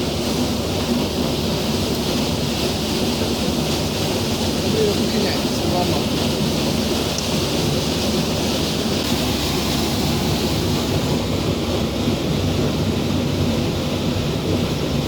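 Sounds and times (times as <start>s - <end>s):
water rushing: 0.0s - 15.0s
water turbine humming: 0.0s - 15.0s.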